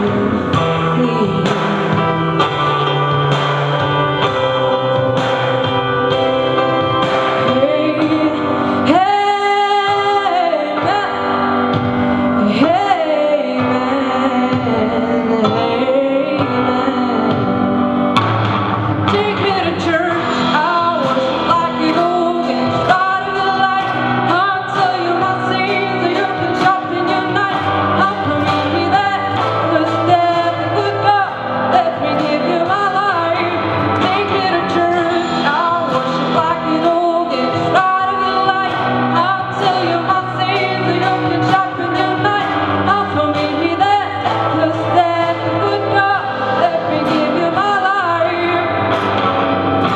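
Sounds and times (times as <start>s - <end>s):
song with singing over guitar and drums: 0.0s - 49.9s.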